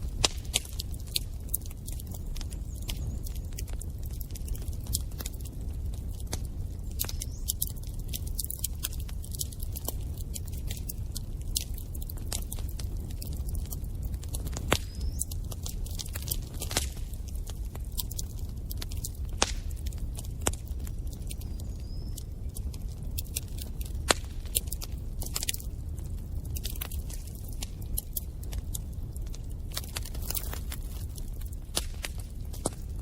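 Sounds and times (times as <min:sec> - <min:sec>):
bonfire crackling and popping: 0:00.0 - 0:33.0
low fire rumble: 0:00.0 - 0:33.0.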